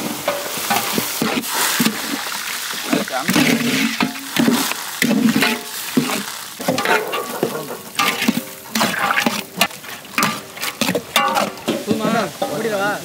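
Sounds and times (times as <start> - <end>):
food sizzling in pot: 0.0 - 13.0
metal ladle scraping pot: 0.1 - 12.6.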